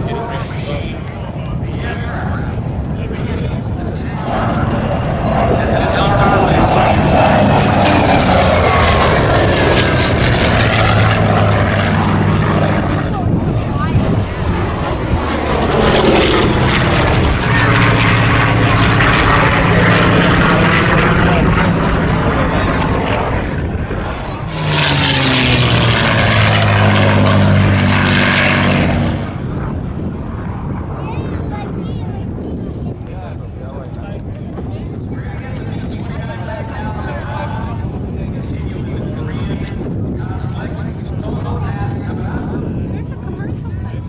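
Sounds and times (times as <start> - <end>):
propeller plane droning past: 0.0 - 44.0.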